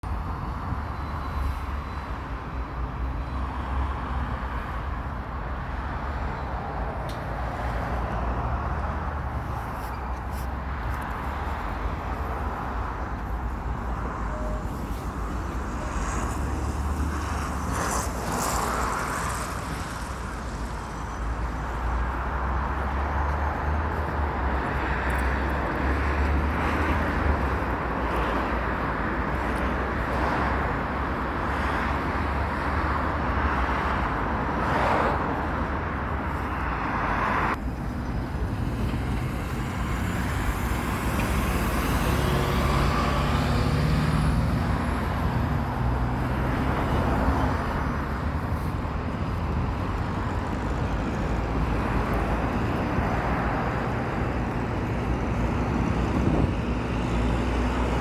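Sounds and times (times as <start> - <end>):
passing vehicles rumbling: 0.0 - 58.0.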